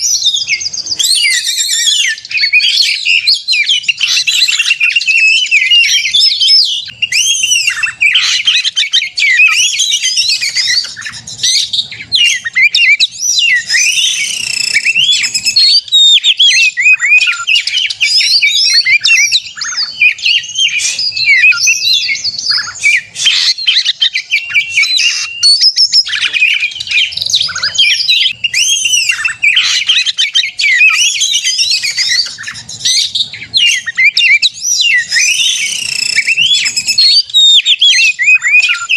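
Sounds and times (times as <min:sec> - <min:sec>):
magpie-robin singing: 0:00.0 - 0:38.9.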